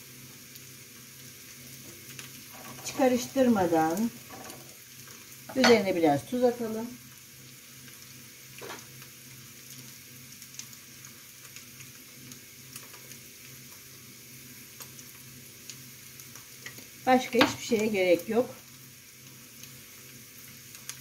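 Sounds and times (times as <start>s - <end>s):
egg sizzling in a pan: 0.0s - 21.0s.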